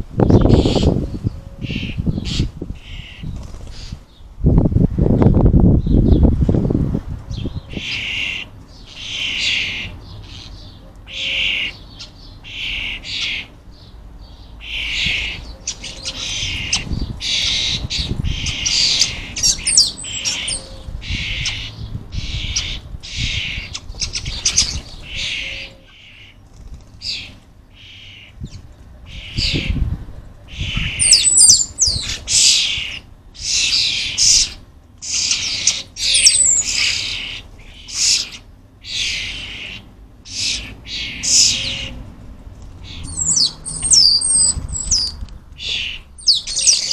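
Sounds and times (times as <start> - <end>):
young starlings begging calls: 0.0 - 4.3, 7.3 - 46.9.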